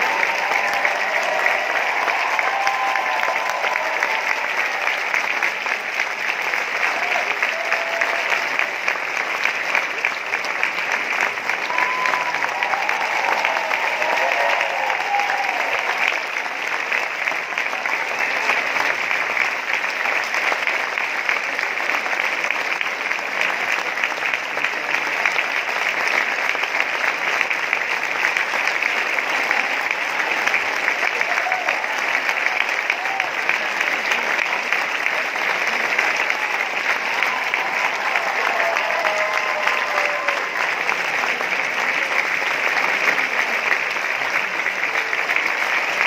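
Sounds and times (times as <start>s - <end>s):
audience applauding: 0.0s - 46.0s.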